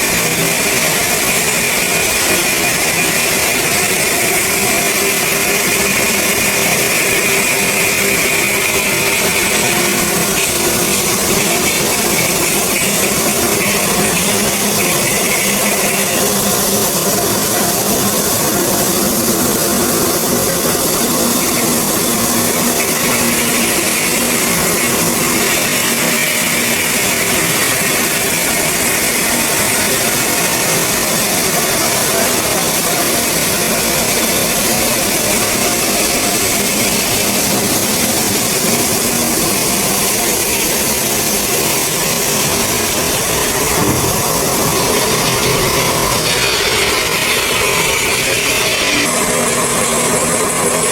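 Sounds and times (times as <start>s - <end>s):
stone machinery hissing: 0.0s - 50.9s.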